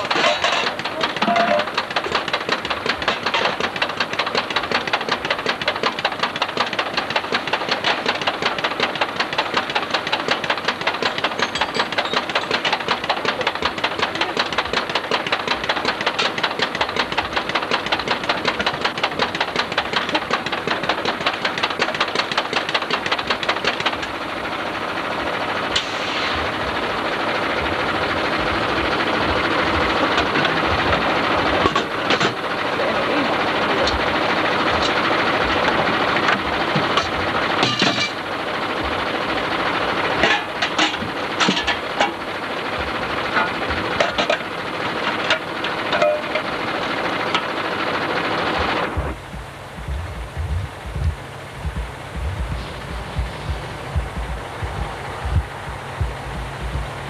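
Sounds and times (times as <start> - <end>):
small engine knocking: 0.0 - 25.7, 26.5 - 57.0.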